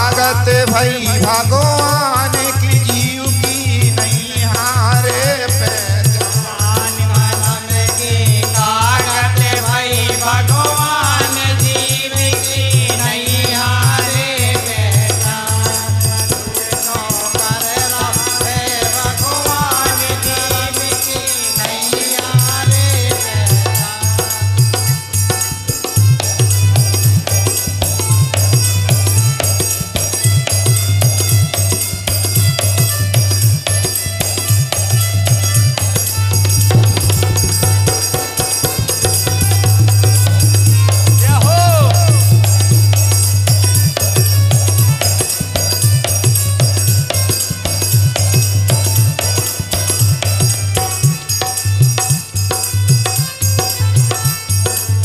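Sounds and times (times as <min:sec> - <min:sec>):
hand drum beat: 0:00.0 - 0:15.4, 0:16.8 - 0:54.8
harmonium melody: 0:00.0 - 0:55.0
jingling rattle percussion: 0:00.0 - 0:55.0.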